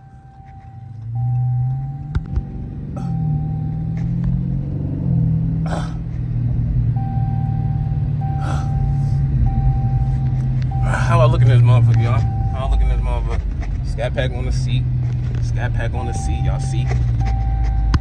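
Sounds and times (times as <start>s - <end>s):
car engine and exhaust rumble: 0.0s - 18.0s.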